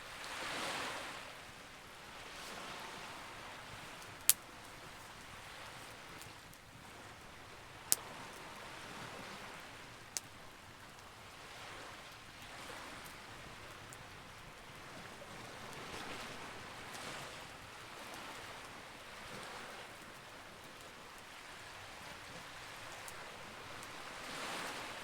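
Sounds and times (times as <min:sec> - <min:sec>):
campfire crackling: 0:00.1 - 0:25.0.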